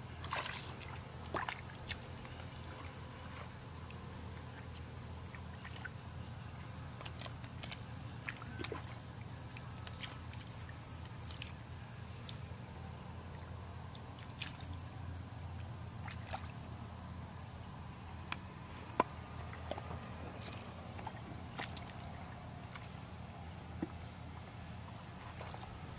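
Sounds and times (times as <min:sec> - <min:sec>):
feet wading through muddy water: 0:00.0 - 0:16.8, 0:18.1 - 0:25.9.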